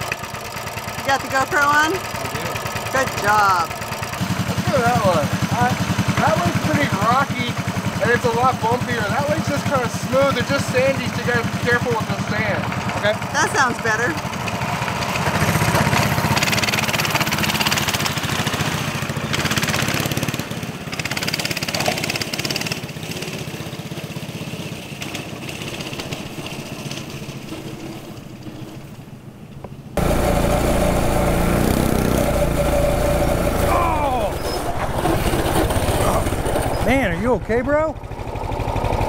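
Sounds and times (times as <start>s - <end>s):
minibike engine running: 0.0s - 39.0s.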